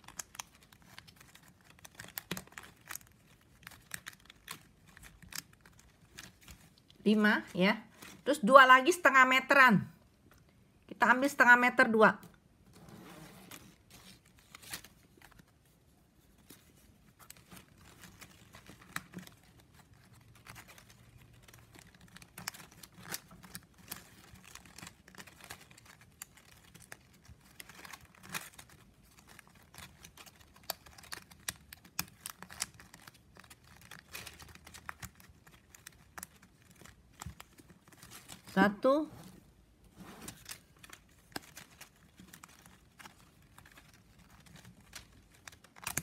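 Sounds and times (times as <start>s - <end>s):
plastic strapping crinkling and clicking: 0.0s - 7.0s, 12.2s - 38.6s, 39.4s - 46.0s.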